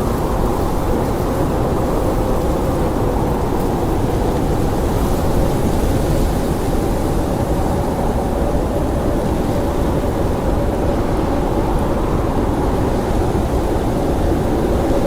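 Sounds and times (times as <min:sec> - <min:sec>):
howling blizzard wind: 0:00.0 - 0:15.0.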